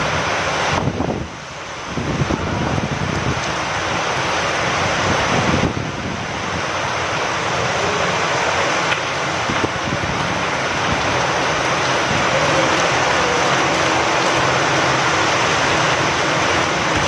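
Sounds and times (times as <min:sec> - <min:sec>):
steady rain falling: 0:00.0 - 0:17.0
wind blowing: 0:00.0 - 0:17.0.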